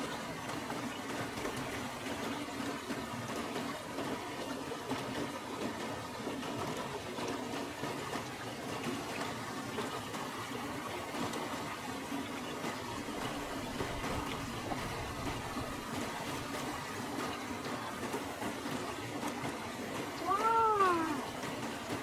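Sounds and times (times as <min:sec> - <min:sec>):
river water trickling: 0:00.0 - 0:22.0.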